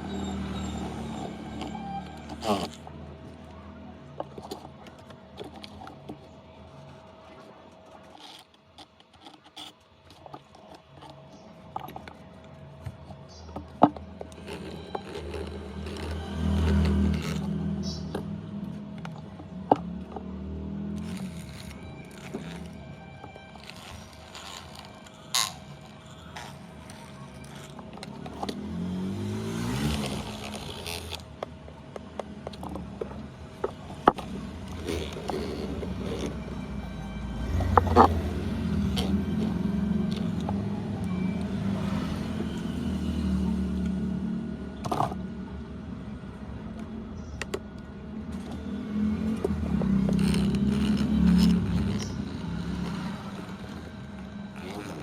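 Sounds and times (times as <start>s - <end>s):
engine rising in pitch: 0.0s - 4.6s, 13.3s - 55.0s
small tools clicking and tapping: 0.1s - 42.7s, 46.7s - 55.0s.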